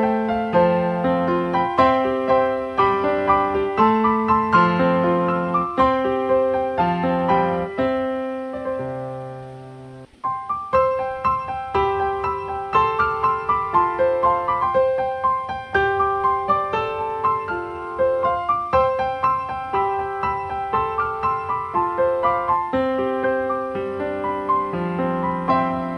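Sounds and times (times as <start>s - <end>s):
calm piano melody: 0.0s - 25.9s.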